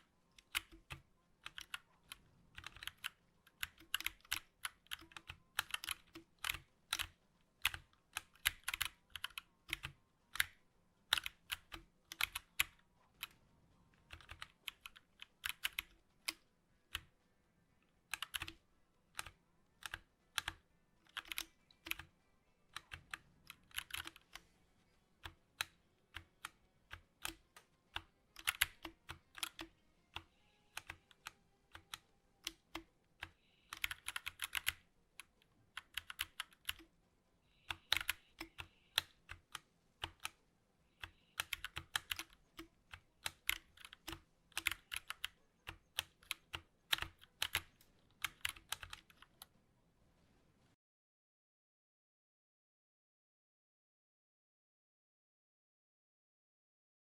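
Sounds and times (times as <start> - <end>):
mechanical keyboard typing: 0.0 - 13.4, 14.0 - 17.2, 18.0 - 24.5, 25.2 - 36.9, 37.6 - 40.4, 41.0 - 49.5.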